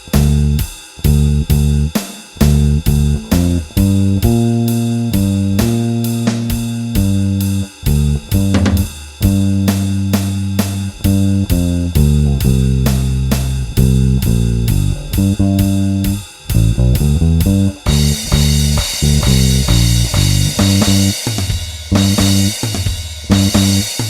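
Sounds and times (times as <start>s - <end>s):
electric bass blues line: 0.0s - 21.2s, 21.9s - 22.6s, 23.3s - 23.9s
drum track with cymbal beat: 0.0s - 24.0s.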